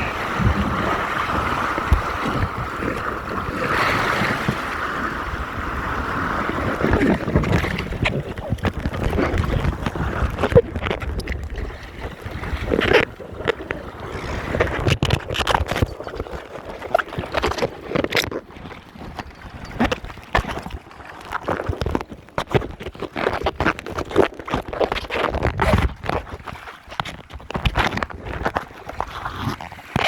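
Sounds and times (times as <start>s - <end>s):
water splashing against boat hull: 0.0s - 30.0s.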